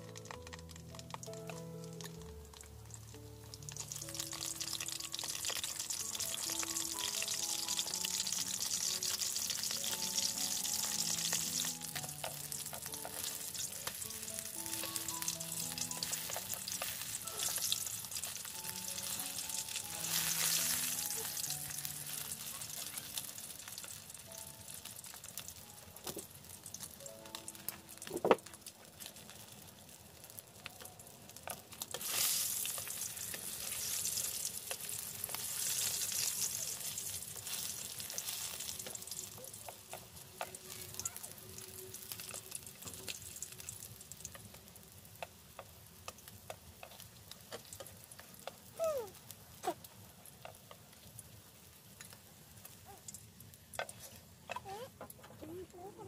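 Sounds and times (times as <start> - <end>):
soft background music: 0.0 - 49.2
fish sizzling in oil: 0.0 - 54.5.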